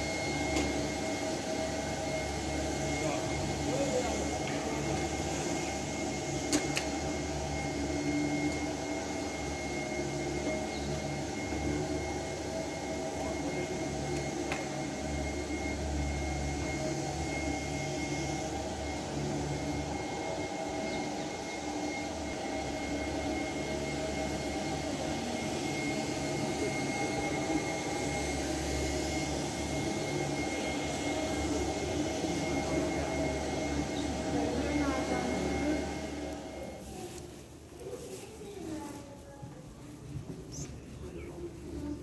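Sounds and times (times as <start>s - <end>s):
mechanical hum and hiss: 0.0s - 42.0s.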